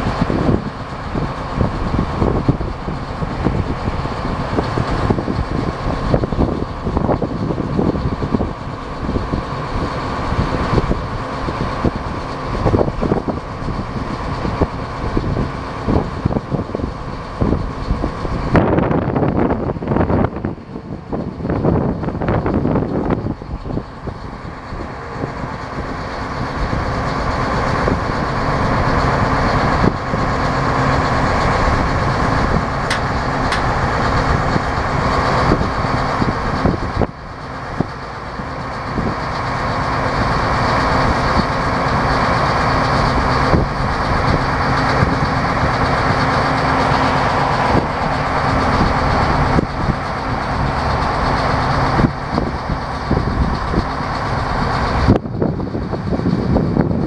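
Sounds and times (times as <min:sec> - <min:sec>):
combine engine and machinery running: 0:00.0 - 0:57.0.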